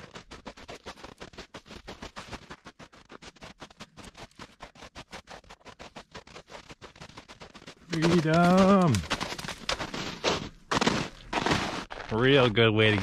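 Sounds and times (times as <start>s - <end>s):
running footfalls on trail: 0.0s - 13.0s.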